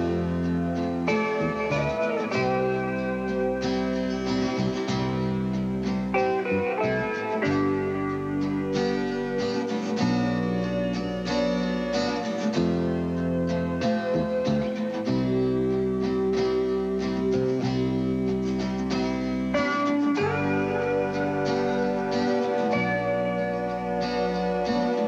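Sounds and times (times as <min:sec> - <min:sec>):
instrumental music: 0:00.0 - 0:25.0.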